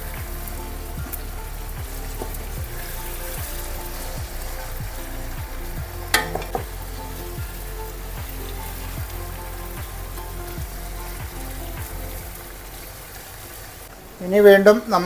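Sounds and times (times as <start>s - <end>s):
chicken sizzling in a pot: 0.0s - 15.0s.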